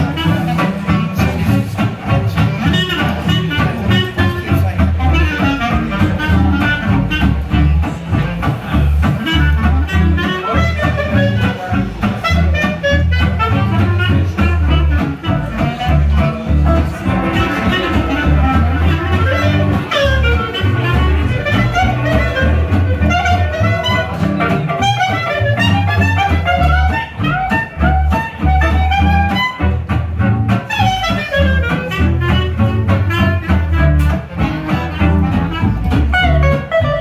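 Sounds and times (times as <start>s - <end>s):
guitar: 0.0s - 37.0s
sliding lead melody: 0.0s - 37.0s
upright bass walking notes: 0.0s - 37.0s.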